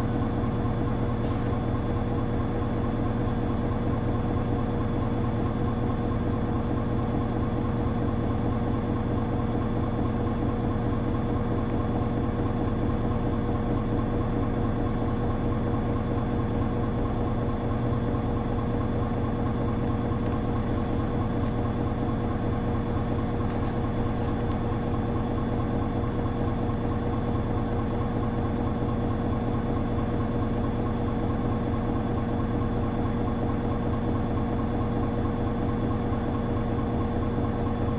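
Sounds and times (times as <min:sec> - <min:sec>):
bus diesel engine idling: 0:00.0 - 0:37.9.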